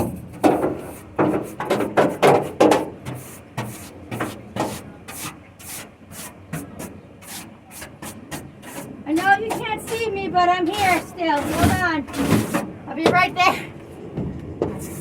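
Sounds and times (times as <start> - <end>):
scraping and rubbing strokes: 0.0 - 12.6.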